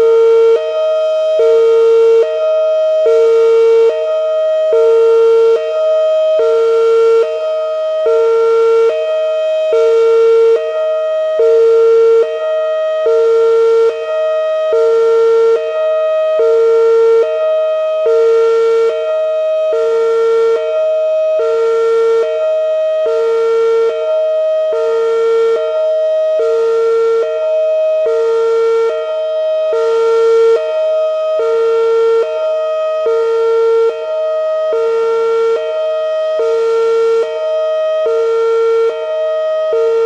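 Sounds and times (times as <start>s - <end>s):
hi-lo warning siren: 0.0s - 40.0s.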